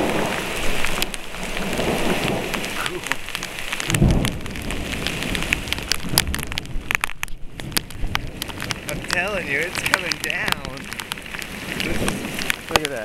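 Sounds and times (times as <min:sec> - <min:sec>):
heavy rain falling: 0:00.0 - 0:13.0
raindrops hitting close: 0:00.0 - 0:13.0
thunder rumble: 0:00.0 - 0:13.0.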